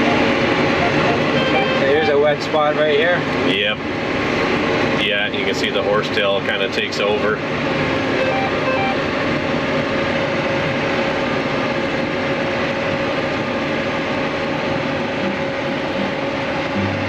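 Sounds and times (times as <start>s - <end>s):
sprayer engine hum with whine: 0.0s - 17.0s.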